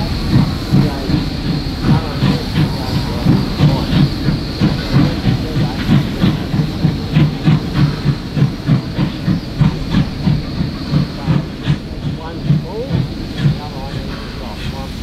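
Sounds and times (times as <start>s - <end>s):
steam hissing from drain cocks: 0.0s - 15.0s
steam locomotive chuffing: 0.0s - 15.0s.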